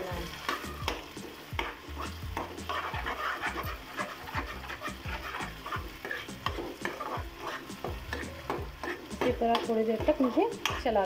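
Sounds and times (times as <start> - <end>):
oil sizzling: 0.0 - 11.0
spatula scraping metal pan: 0.3 - 11.0.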